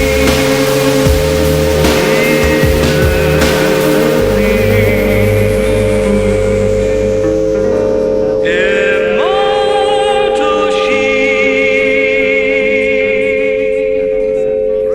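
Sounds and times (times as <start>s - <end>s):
music with singing: 0.0s - 14.9s
steady pure tones: 0.0s - 14.9s.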